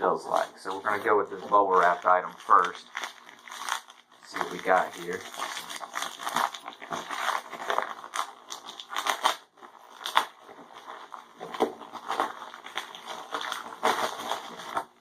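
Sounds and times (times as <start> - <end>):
bubble wrap crackles: 0.0 - 15.0
bubble wrap crinkling and tearing: 0.0 - 15.0.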